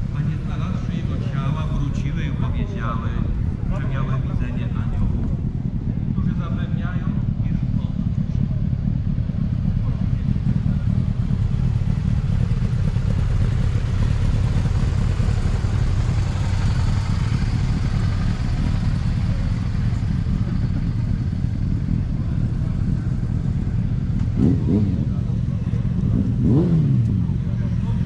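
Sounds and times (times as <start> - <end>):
motorcycle engines idling: 0.0 - 28.0.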